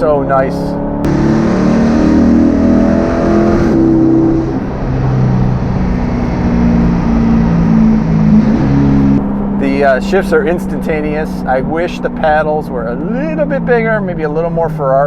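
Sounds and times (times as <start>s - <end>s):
car engine revving through gear shifts: 0.0s - 14.4s.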